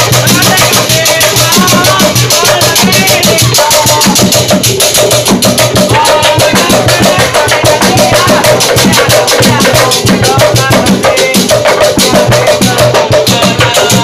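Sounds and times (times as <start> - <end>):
drums and wooden percussion: 0.0 - 14.0.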